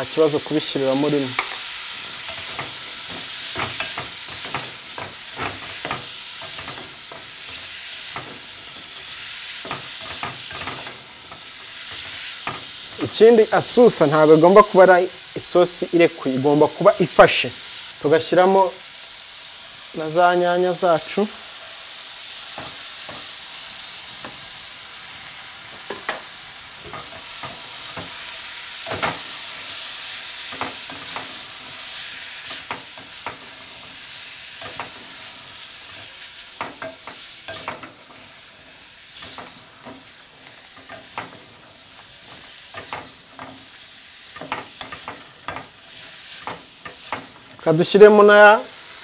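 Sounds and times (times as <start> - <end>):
food sizzling in a metal pot: 0.0 - 49.0.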